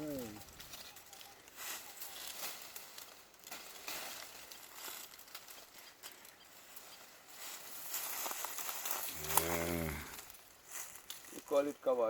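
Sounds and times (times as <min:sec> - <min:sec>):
dry leaves rustling and crackling: 0:00.0 - 0:12.0.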